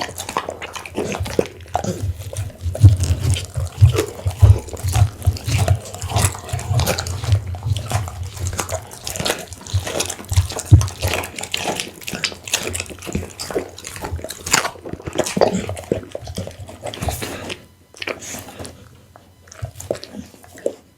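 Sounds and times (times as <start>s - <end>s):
dog chewing and lapping food: 0.0s - 20.9s.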